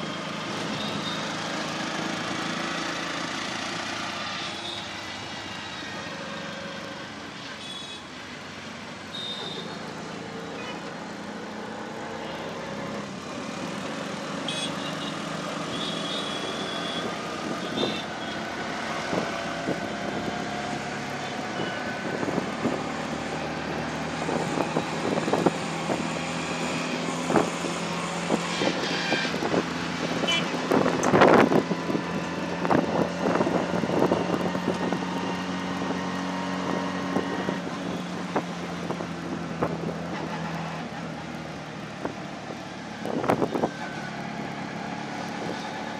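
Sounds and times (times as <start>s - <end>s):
auto-rickshaw engine running: 0.0s - 45.9s
road noise: 0.0s - 45.9s.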